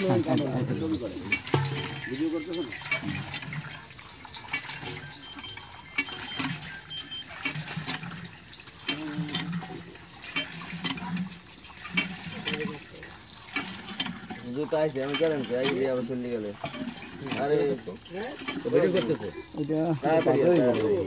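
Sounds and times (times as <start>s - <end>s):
pump handle knocking: 0.0s - 21.0s
water gushing into metal pot: 0.0s - 21.0s.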